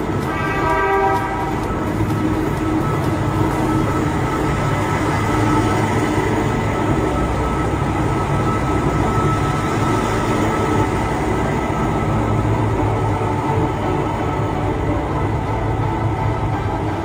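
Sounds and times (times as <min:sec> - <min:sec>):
metro train rumbling past: 0:00.0 - 0:17.0.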